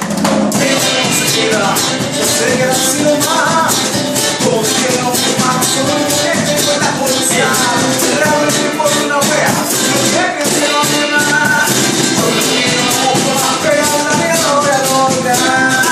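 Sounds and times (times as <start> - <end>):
fast percussion rhythm: 0.0 - 15.9
live band melody: 0.0 - 15.9.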